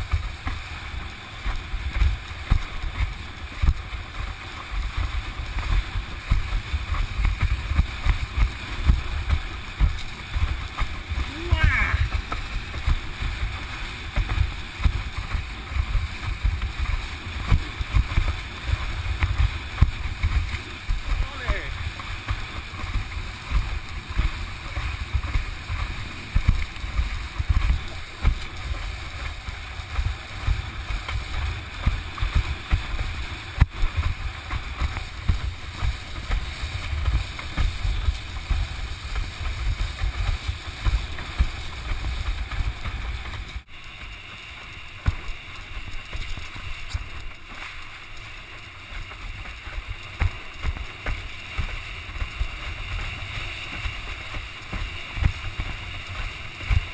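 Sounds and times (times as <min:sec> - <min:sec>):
wind buffeting microphone: 0:00.0 - 0:47.4
water rushing past board: 0:00.0 - 0:56.9.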